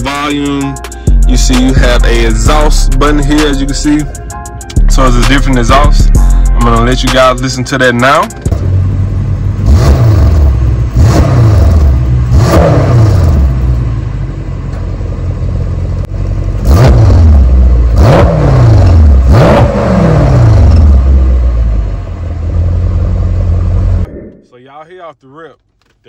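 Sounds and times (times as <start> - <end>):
car engine revving and idling: 0.0 - 24.1.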